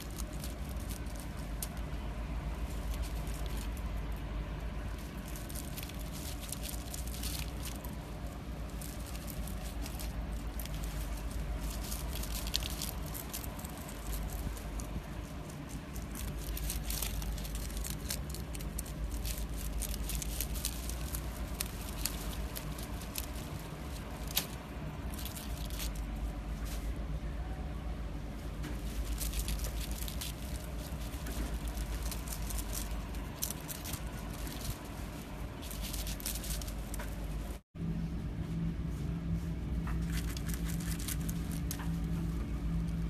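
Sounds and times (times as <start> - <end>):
rabbits chewing greens: 0.0 - 43.0
steady low hum: 0.0 - 43.0.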